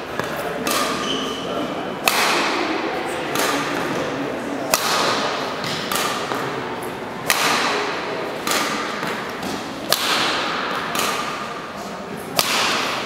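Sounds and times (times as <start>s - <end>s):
racket hitting shuttlecock: 0.0s - 1.4s, 2.0s - 13.0s
softer distant racket hits: 0.1s - 1.4s, 2.0s - 11.7s, 12.3s - 13.0s.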